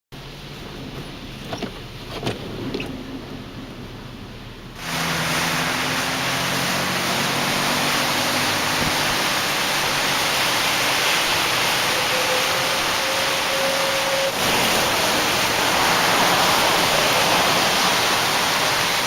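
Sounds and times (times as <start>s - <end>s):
strong storm wind: 0.3s - 19.0s.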